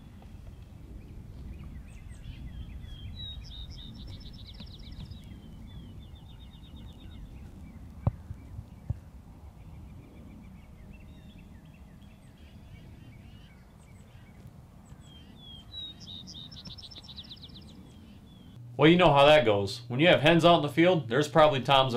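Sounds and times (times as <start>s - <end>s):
songbirds singing: 0.0s - 18.6s
low outdoor rumble: 0.0s - 21.9s.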